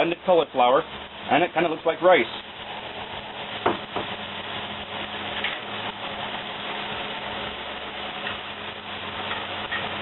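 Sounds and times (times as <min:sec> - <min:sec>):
cauliflower frying in oil: 0:00.0 - 0:10.0
exhaust fan humming: 0:00.0 - 0:10.0.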